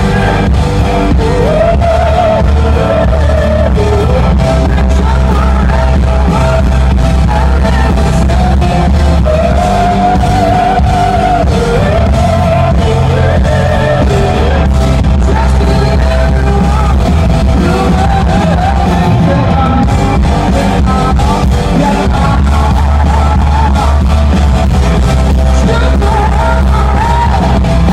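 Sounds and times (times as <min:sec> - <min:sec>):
person singing: 0:00.0 - 0:24.5, 0:25.3 - 0:27.9
live rock band playing: 0:00.0 - 0:27.9.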